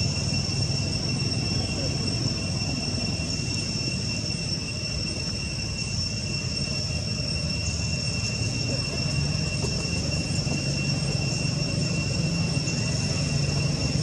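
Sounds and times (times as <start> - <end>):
constant high-pitched whine: 0.0 - 14.0.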